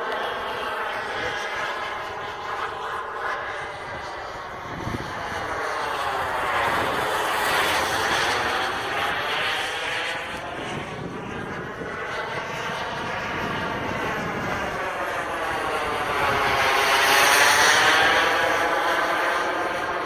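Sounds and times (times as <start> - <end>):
jet aircraft flying overhead: 0.0 - 20.0.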